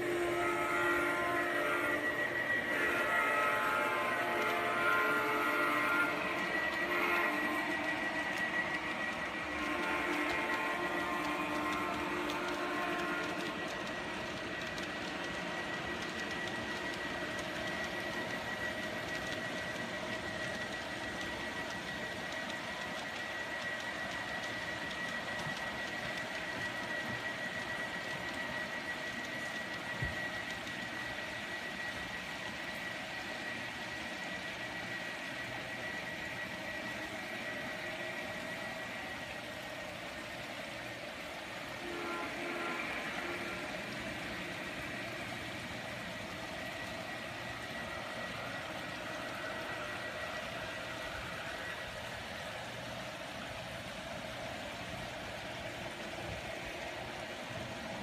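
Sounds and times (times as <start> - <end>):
model train rolling on track: 0.0 - 58.0.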